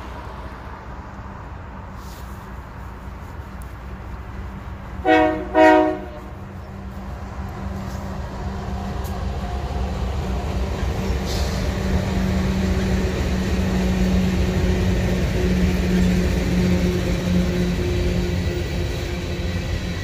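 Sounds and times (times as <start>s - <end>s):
diesel locomotives rumbling: 0.0s - 20.0s
freight cars rolling: 0.0s - 20.0s.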